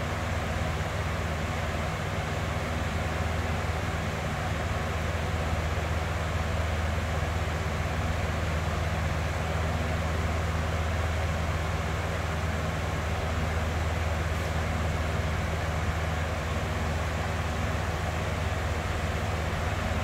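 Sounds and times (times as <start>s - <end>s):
box fan running: 0.0s - 20.0s.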